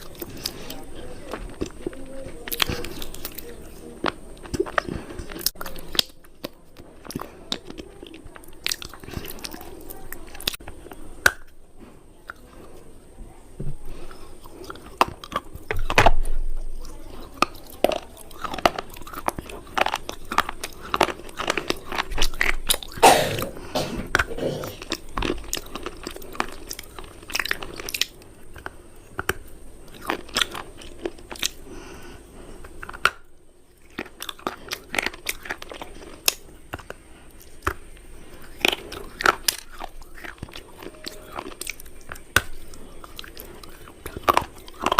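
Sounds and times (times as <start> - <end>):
crunchy food being chewed: 0.0 - 44.9.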